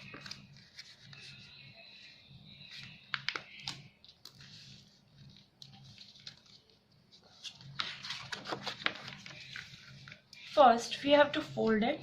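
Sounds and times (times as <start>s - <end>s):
paper crinkling and creasing: 0.0s - 10.6s.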